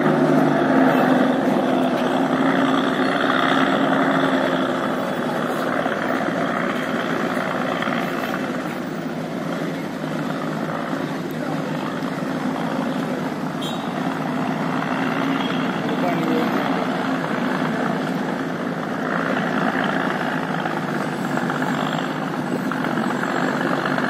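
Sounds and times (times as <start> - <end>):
churned water rushing: 0.0 - 24.0
ship engines droning: 0.0 - 24.0.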